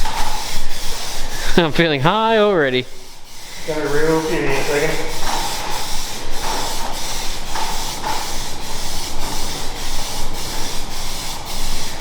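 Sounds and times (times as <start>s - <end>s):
spray paint can hissing: 0.0s - 12.0s.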